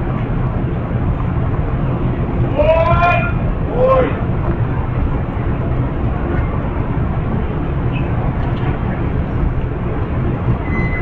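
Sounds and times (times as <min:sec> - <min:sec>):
train diesel engines idling: 0:00.0 - 0:11.0.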